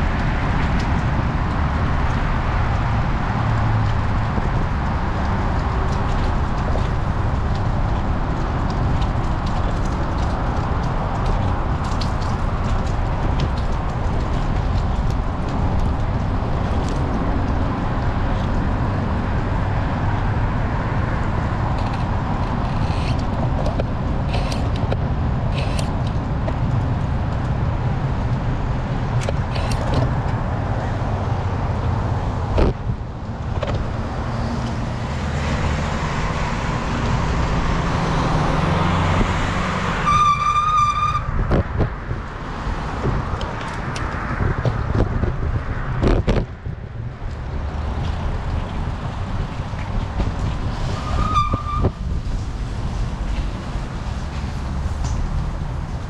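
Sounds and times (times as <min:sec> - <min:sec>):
road and traffic noise: 0:00.0 - 0:56.0
wind rushing on microphone: 0:00.0 - 0:56.0.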